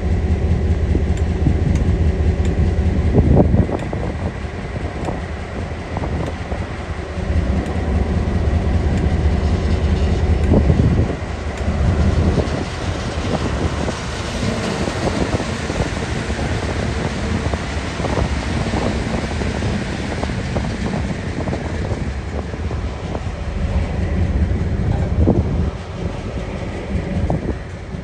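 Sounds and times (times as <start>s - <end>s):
diesel locomotive engine rumble: 0.0s - 28.0s
wheels clicking over rail joints: 1.1s - 28.0s.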